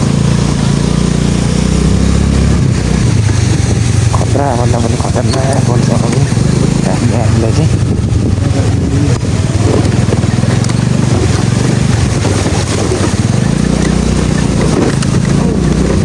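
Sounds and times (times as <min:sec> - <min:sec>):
scooter engine running: 0:00.0 - 0:16.0
wind buffeting microphone: 0:00.0 - 0:16.0.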